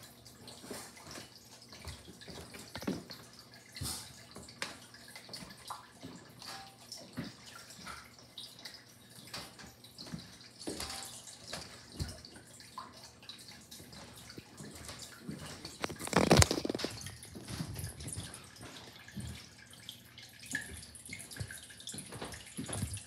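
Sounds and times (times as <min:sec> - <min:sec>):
small splashes and knocks: 0:00.0 - 0:23.0
water trickling in aquarium: 0:00.0 - 0:23.0.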